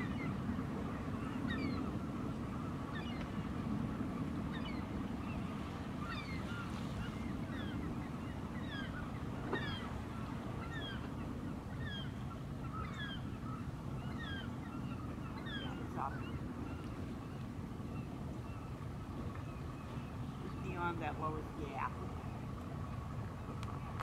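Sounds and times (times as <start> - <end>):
birds calling: 0.0 - 23.6.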